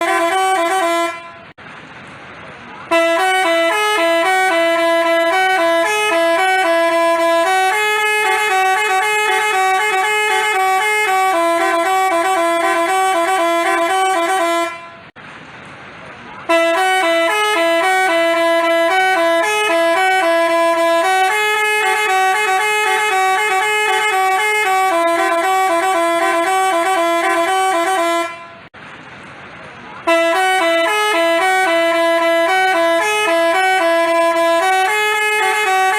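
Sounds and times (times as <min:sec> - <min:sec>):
bus horn playing melody: 0:00.0 - 0:01.6, 0:02.8 - 0:15.2, 0:16.4 - 0:28.8, 0:30.0 - 0:35.9.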